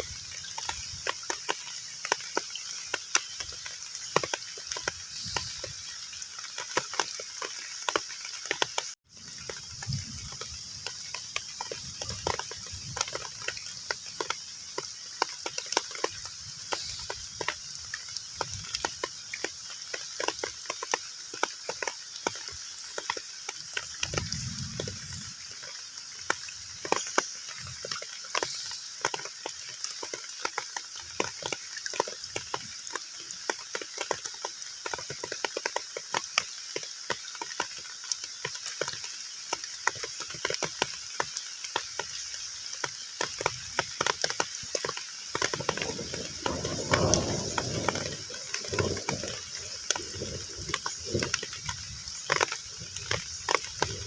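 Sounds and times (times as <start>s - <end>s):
heavy rain on water: 0.0s - 54.0s.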